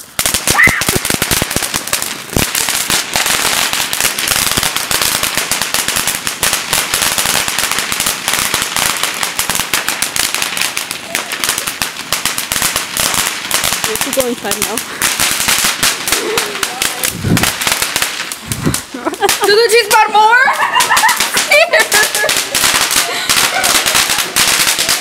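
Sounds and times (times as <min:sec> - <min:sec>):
firework fountain hissing and crackling: 0:00.0 - 0:25.0.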